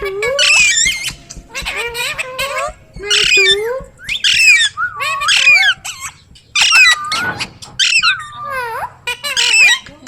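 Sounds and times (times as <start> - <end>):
parrot calling: 0.0 - 10.0.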